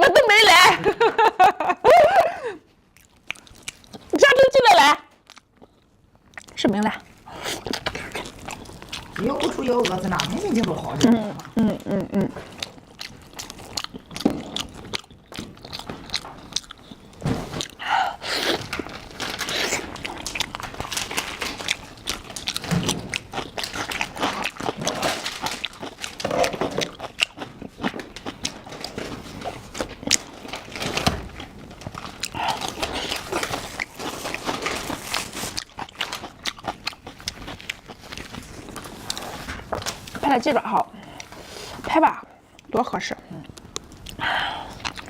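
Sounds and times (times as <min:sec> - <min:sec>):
person chewing crunchy food: 0:02.9 - 0:04.1, 0:05.2 - 0:40.2, 0:43.4 - 0:45.0.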